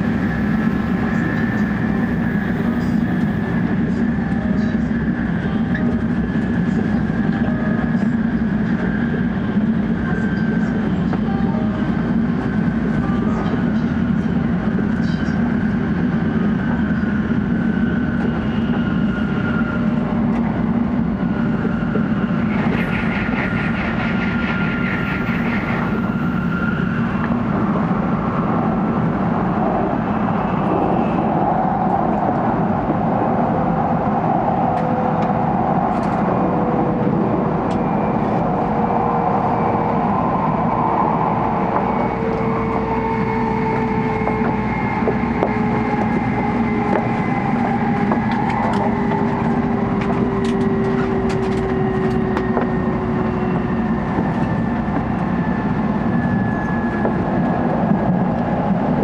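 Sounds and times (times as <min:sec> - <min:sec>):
train running at speed rumble: 0:00.0 - 0:59.0.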